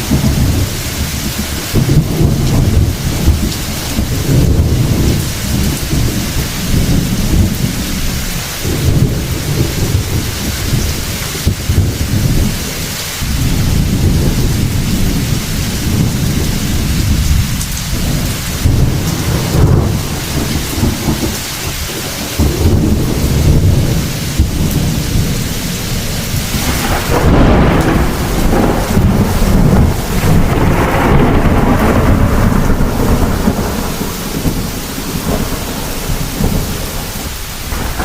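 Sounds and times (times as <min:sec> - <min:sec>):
deep rolling thunder: 0:00.0 - 0:38.0
steady rain: 0:00.0 - 0:38.0.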